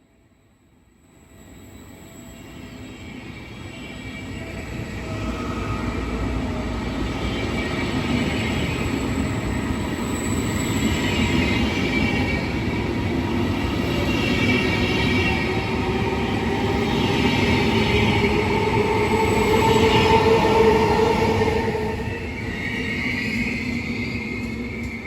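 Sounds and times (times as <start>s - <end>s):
train wheels rumbling on rails: 4.2s - 25.0s.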